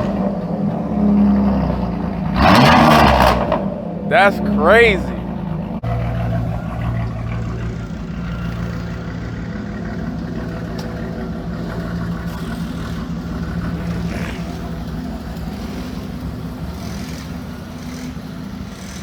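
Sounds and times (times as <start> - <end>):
engine idling through exhaust: 0.0 - 4.1, 5.1 - 19.0.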